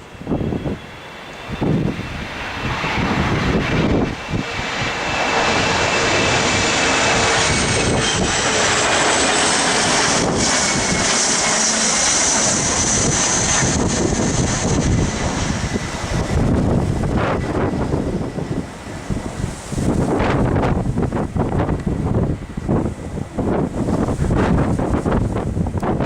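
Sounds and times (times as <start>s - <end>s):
jet engines roaring with whine: 0.0s - 26.0s
wind buffeting microphone: 0.0s - 26.0s.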